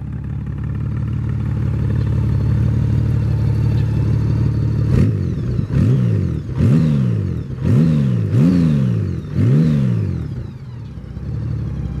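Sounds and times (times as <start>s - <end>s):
motorcycle engine idling: 0.0s - 12.0s
motorcycle engine revving: 0.0s - 12.0s.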